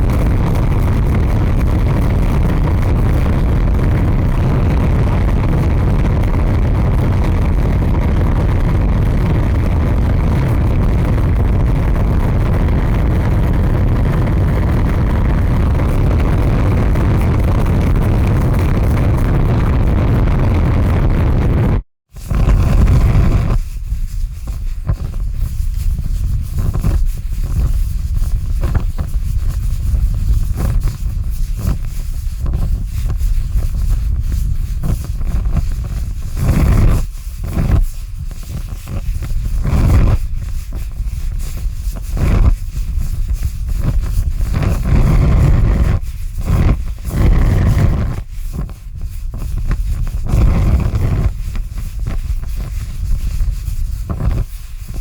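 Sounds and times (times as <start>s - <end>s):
large fire rumbling: 0.0s - 23.6s, 24.4s - 55.0s
fire crackles: 0.0s - 55.0s.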